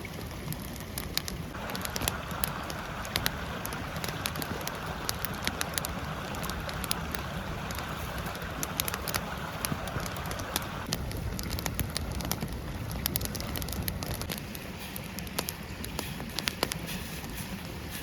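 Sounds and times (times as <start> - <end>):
campfire crackling and popping: 0.0 - 18.0
stream rushing: 0.0 - 18.0.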